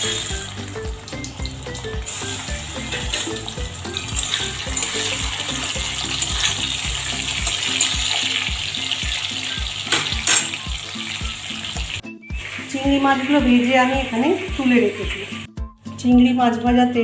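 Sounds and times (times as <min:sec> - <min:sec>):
prawns sizzling in oil: 0:00.0 - 0:15.6
background music with beat: 0:00.0 - 0:16.9.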